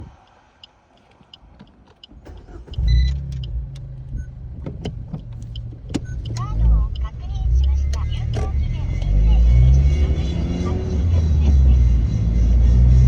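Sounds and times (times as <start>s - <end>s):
sharp clicks and ticks: 0.0s - 11.2s
low engine and road rumble: 0.0s - 13.0s.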